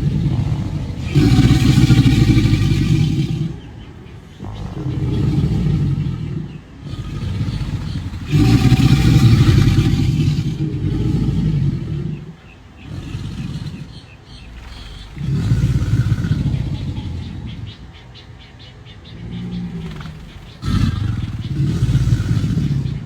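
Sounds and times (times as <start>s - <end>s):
alligator bellowing: 0.0s - 23.0s.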